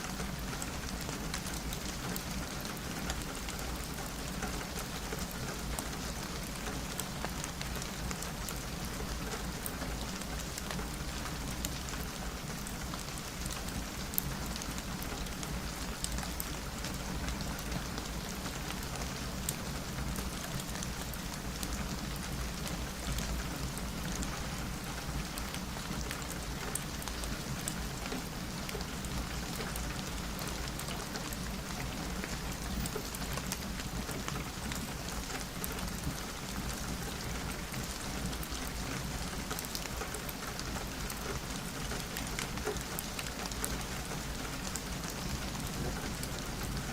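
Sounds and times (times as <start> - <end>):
rain falling on a window: 0.0 - 46.9.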